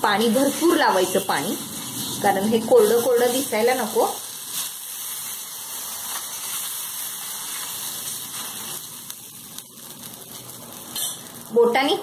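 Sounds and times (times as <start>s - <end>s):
water sizzling on a hot pan: 0.0s - 12.0s.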